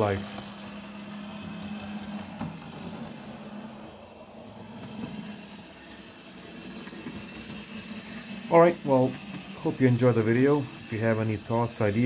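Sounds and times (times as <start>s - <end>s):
model train wheels rolling on track: 0.0s - 12.0s
small electric motor humming: 0.0s - 12.0s.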